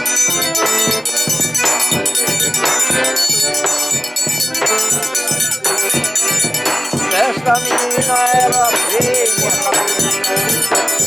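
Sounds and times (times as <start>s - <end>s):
accordion melody: 0.0s - 11.0s
steady drum beat: 0.0s - 11.0s
triangle ringing: 0.0s - 11.0s.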